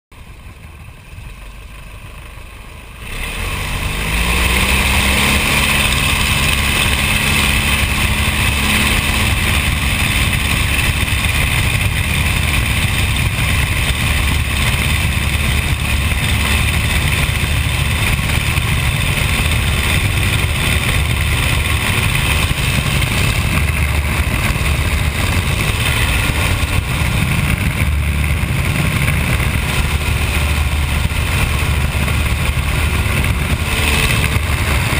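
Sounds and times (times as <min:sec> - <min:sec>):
propeller plane engine: 0:00.1 - 0:34.9.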